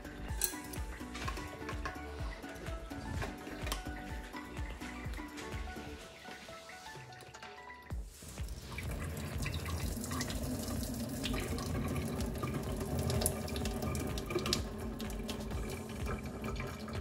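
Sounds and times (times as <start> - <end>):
water running into sink: 0.2 - 17.0.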